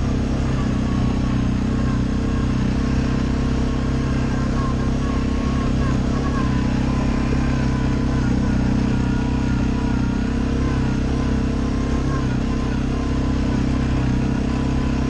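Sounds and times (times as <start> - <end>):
quad engine running: 0.0 - 15.0.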